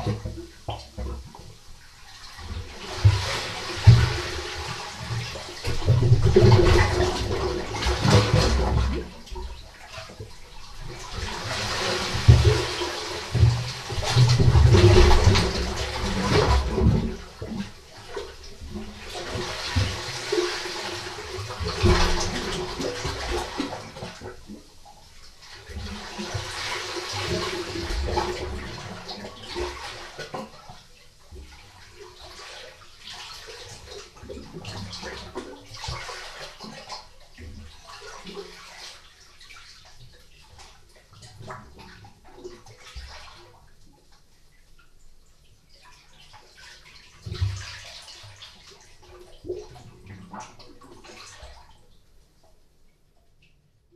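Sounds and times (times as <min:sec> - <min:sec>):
sea water surging in a rock cave: 0:00.0 - 0:44.4.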